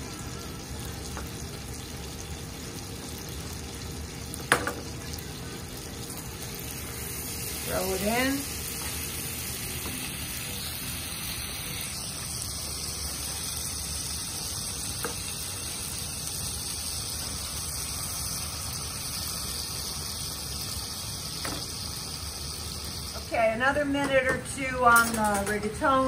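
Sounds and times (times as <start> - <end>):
meat sizzling in a frying pan: 0.0 - 26.0.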